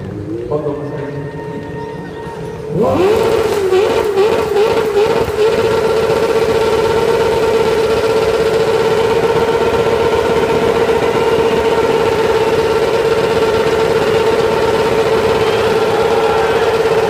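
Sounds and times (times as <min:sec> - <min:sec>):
motorcycle engine at high revs: 0:02.6 - 0:17.0.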